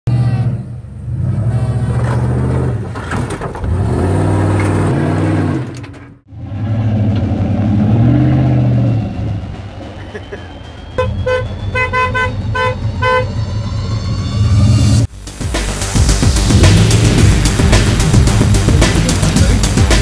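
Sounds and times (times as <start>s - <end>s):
truck engine revving: 0.1s - 20.0s.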